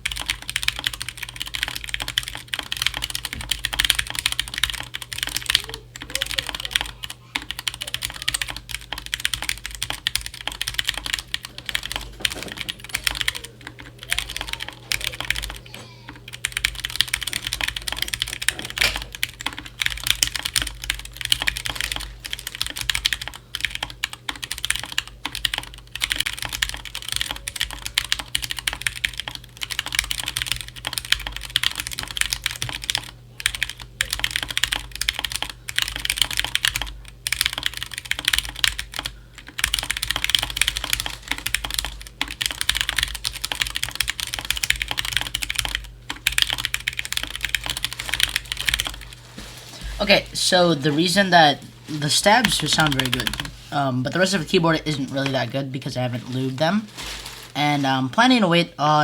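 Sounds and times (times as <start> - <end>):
mechanical keyboard typing: 0.0 - 49.1, 51.2 - 53.5.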